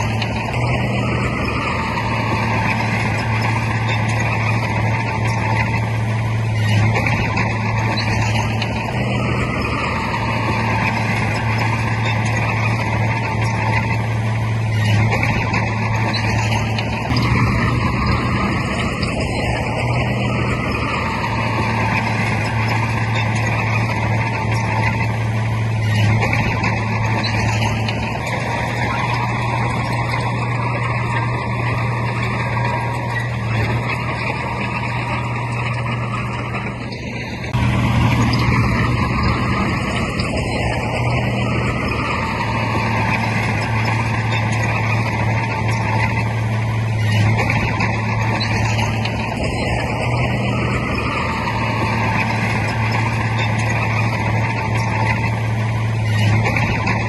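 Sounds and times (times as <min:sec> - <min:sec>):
heavy diesel machinery engine drone: 0:00.0 - 0:57.0.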